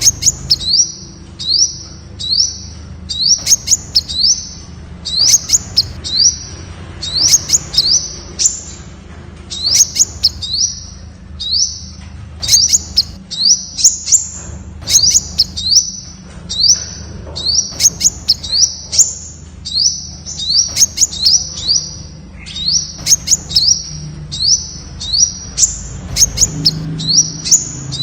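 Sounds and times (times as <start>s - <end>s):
sunbird high rising chirps: 0.0s - 8.9s, 9.5s - 28.0s.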